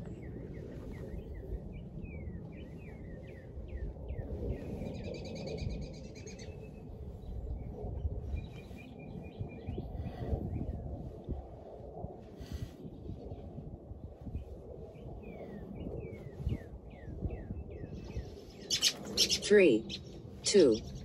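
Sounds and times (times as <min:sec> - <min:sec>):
wild birds chirping and trilling: 0:00.0 - 0:10.8, 0:14.1 - 0:21.0
steady low rumble: 0:00.0 - 0:21.0.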